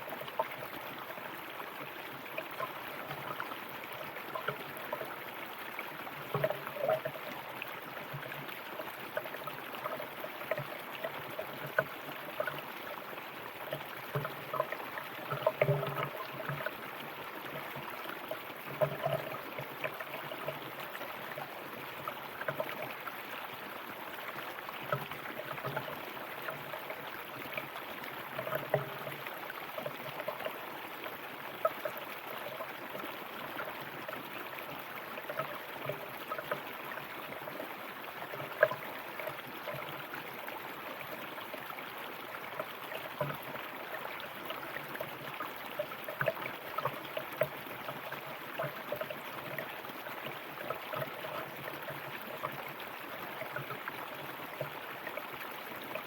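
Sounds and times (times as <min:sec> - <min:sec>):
river water running over stones: 0:00.0 - 0:56.0.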